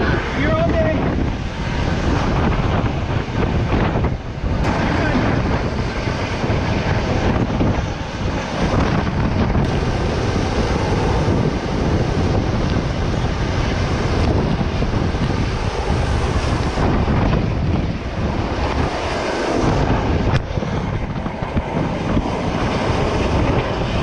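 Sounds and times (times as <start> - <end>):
helicopter engine and rotor noise: 0.0 - 24.0
helicopter rotor downwash rushing: 0.0 - 24.0.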